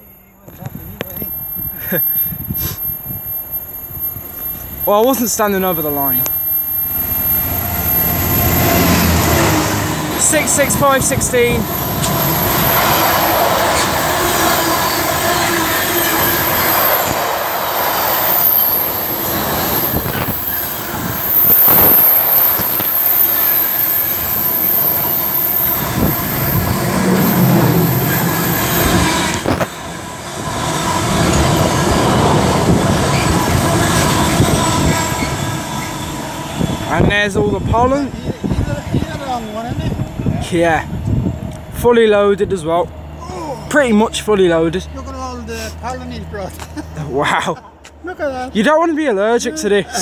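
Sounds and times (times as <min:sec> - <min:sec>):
high-pitched wheel squeal: 0:00.0 - 0:41.1
train wheels rumbling on rail: 0:00.4 - 0:49.8.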